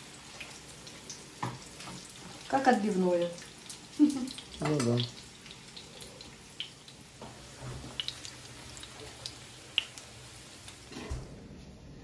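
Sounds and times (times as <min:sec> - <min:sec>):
chicken frying in hot oil: 0:00.0 - 0:11.2.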